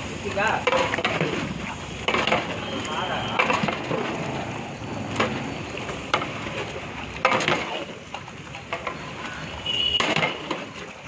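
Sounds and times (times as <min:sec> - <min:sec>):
ladle stirring thick gravy: 0:00.0 - 0:11.0.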